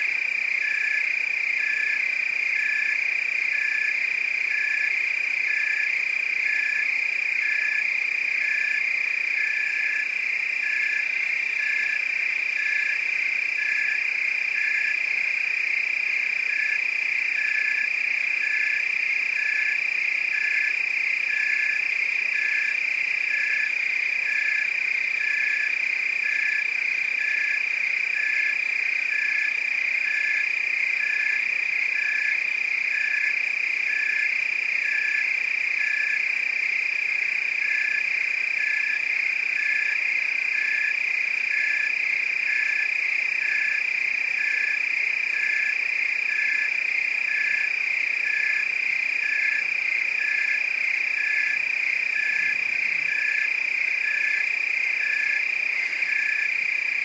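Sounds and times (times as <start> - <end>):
crickets trilling: 0.0 - 57.0
frogs pulsing call: 0.0 - 57.0.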